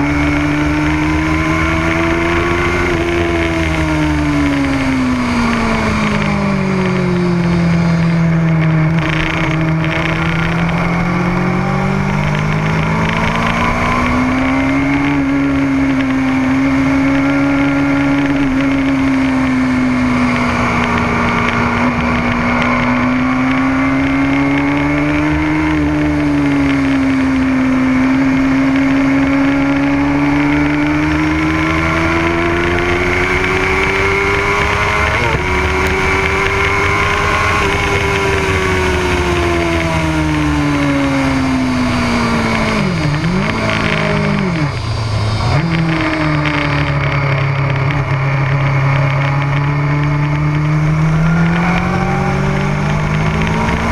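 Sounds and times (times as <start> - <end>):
low wind rumble: 0.0 - 53.9
motorcycle engine: 0.0 - 53.9.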